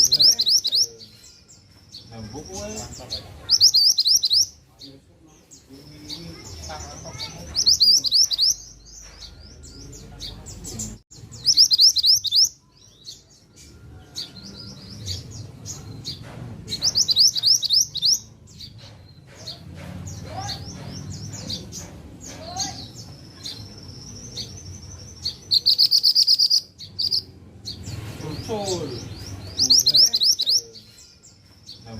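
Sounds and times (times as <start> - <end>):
songbird chirping: 0.0 - 31.9.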